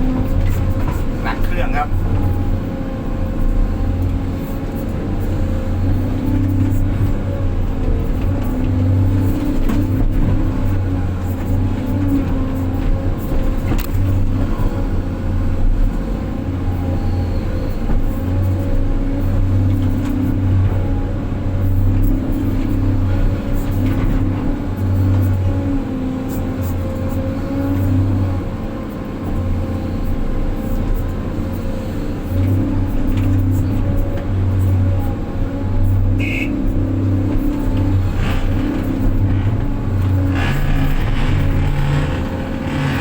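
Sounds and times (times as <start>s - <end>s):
diesel truck engine under load: 0.0s - 43.0s.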